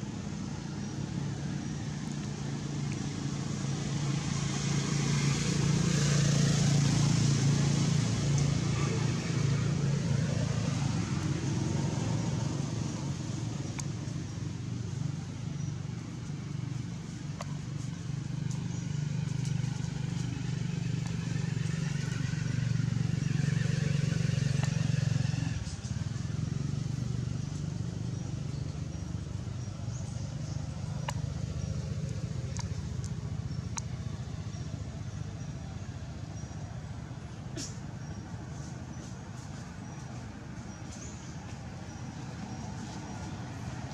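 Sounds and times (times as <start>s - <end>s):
low motor hum: 0.0s - 43.9s.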